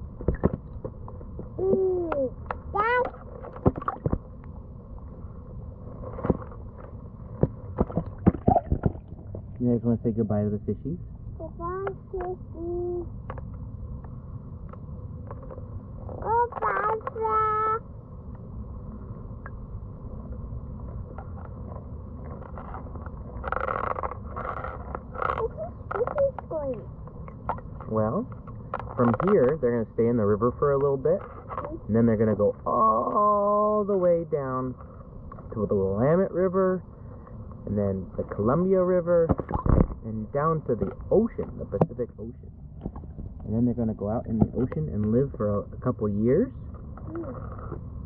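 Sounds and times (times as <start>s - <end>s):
muffled underwater river rumble: 0.0s - 48.0s.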